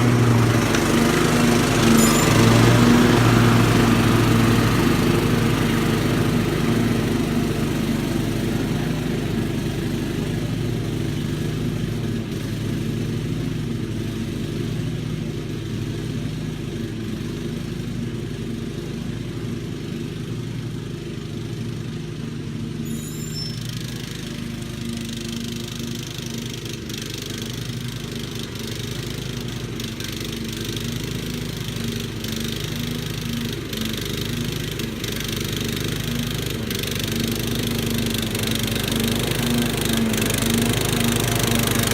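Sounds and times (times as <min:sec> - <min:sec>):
riding mower engine running: 0:00.0 - 0:41.9.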